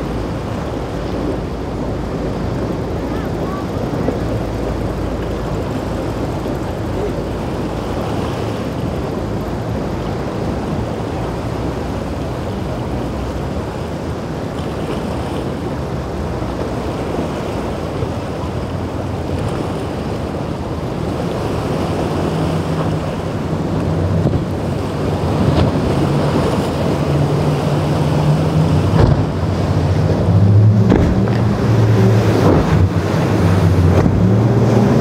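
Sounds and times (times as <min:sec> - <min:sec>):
choppy waves: 0:00.0 - 0:35.0
deep engine drone of boat: 0:00.0 - 0:35.0
outboard motor running: 0:00.0 - 0:35.0
wind on microphone: 0:00.0 - 0:35.0.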